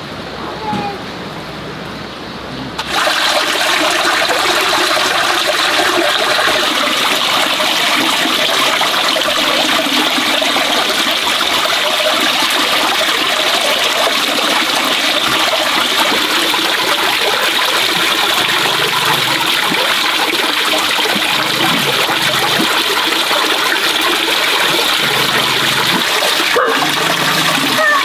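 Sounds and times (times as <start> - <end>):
water pouring into basin: 2.8 - 28.0.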